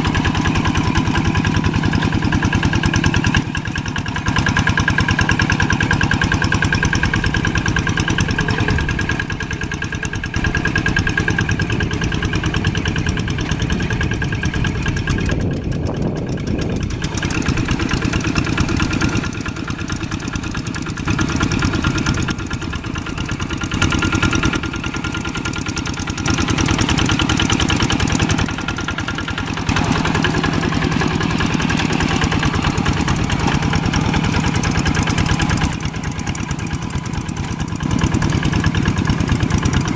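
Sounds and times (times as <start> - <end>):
old tractor engine running: 0.0 - 39.9.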